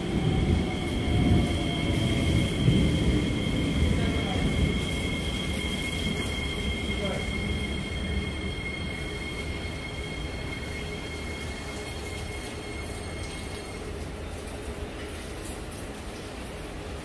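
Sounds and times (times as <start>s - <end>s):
train wheel squeal: 0.0s - 14.1s
train rumble: 0.0s - 17.0s.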